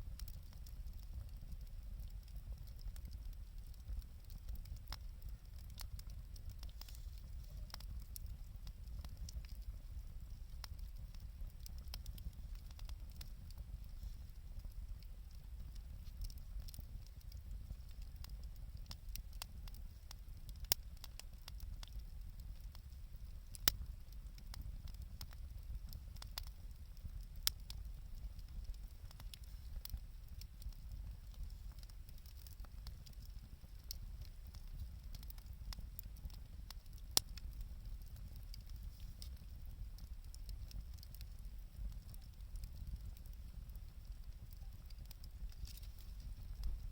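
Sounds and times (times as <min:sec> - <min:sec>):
low steady rumble: 0:00.0 - 0:46.9
wood fire crackling: 0:00.0 - 0:46.9.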